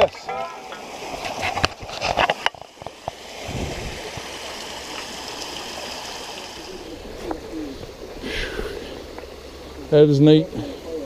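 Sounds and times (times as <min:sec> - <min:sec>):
creek water over small waterfall: 0:00.0 - 0:11.0.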